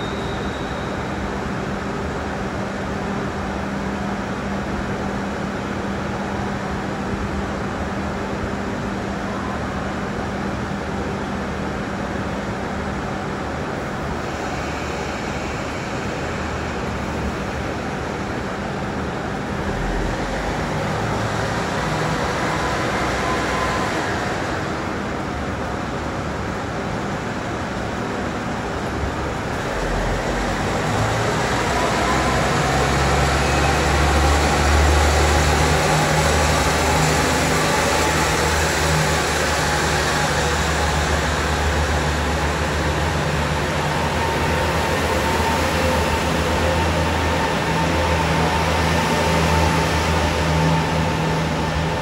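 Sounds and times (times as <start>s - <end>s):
rising whine of train: 0.0s - 52.0s
train low hum: 0.0s - 52.0s.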